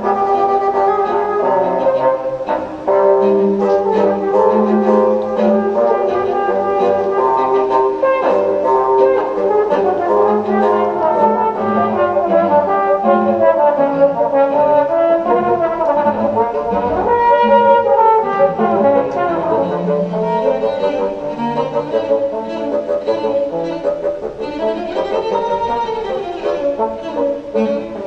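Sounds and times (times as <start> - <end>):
chamber ensemble music: 0.0 - 28.0
trombone: 0.0 - 28.0.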